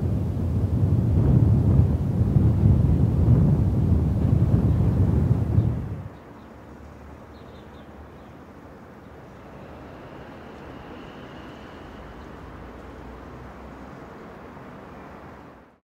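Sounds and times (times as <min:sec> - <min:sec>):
traffic rumble: 0:00.0 - 0:15.8.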